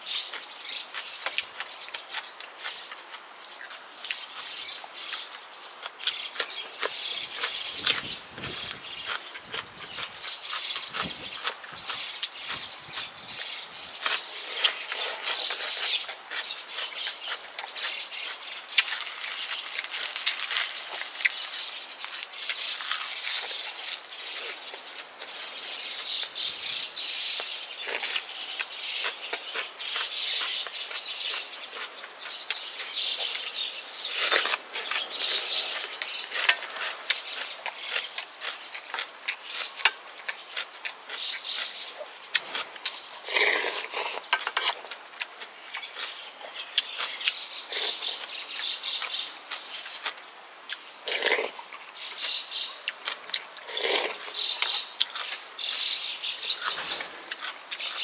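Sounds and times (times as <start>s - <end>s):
crunchy chewing: 0.1s - 58.0s.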